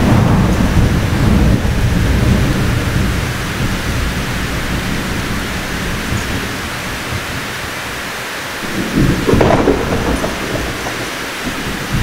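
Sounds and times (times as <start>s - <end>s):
heavy rain hissing: 0.0s - 12.0s
thunder rumble: 0.0s - 12.0s.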